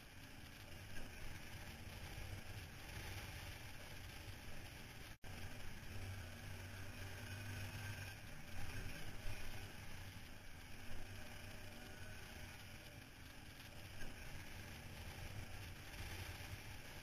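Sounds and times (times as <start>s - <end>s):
atv engine drone: 0.0s - 17.0s
wind and road noise: 0.0s - 17.0s.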